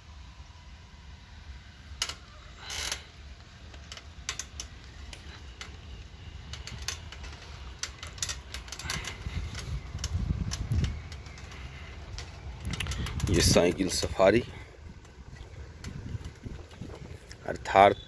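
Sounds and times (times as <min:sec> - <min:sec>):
wind and road noise: 0:00.0 - 0:18.0
bicycle clicking and rattling: 0:01.6 - 0:18.0.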